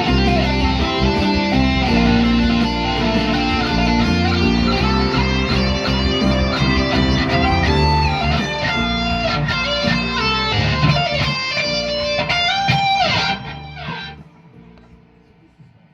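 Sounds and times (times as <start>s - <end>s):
low bass notes: 0.0s - 14.3s
electric guitar melody: 0.0s - 15.4s.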